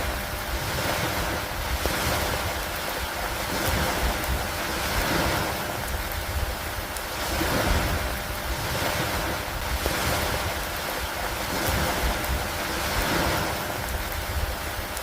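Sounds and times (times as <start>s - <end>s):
gusty wind rumble: 0.0s - 15.0s
steady rain: 0.0s - 15.0s.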